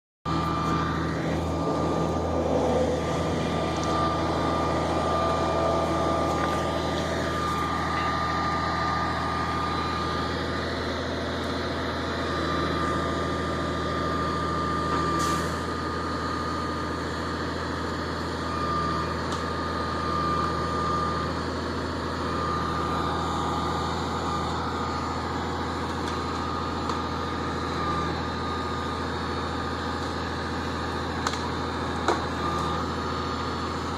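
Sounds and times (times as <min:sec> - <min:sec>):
high whine: 0:00.3 - 0:17.1, 0:18.0 - 0:29.6
diesel truck engine running: 0:00.3 - 0:33.9.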